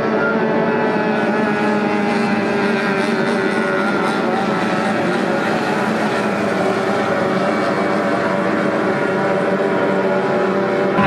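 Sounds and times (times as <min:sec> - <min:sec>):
outboard motor at speed: 0:00.0 - 0:11.0.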